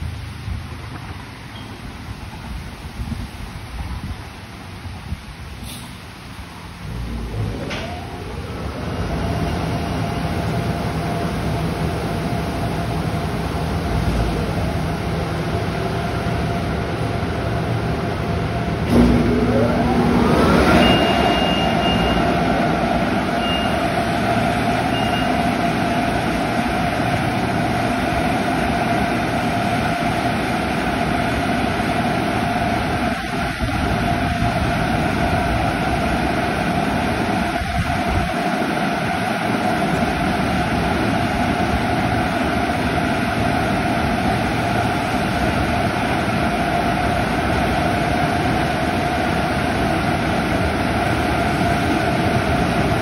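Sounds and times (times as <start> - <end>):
car wash machinery running: 6.2 - 53.0
dryer blowers whining: 6.8 - 53.0.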